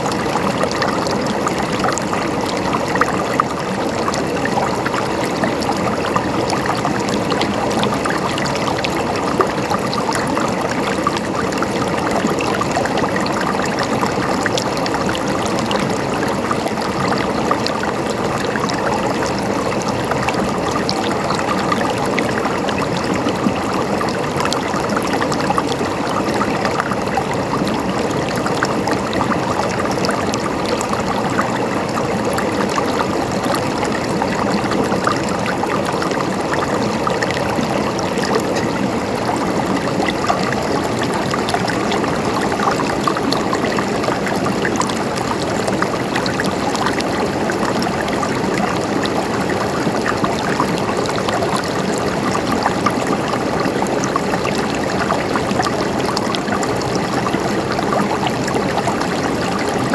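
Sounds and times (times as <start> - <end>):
stream water flowing: 0.0 - 59.9
water trickling over stones: 0.0 - 59.9.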